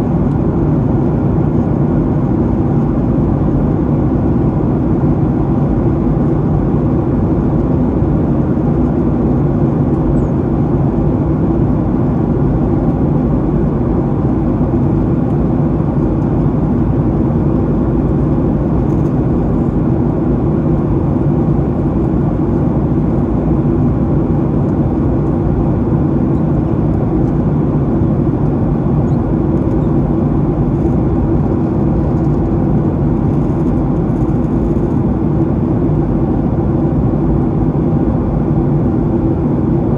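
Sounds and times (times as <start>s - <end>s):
jet engine hum: 0.0s - 39.9s
rush of air in aircraft cabin: 0.0s - 39.9s.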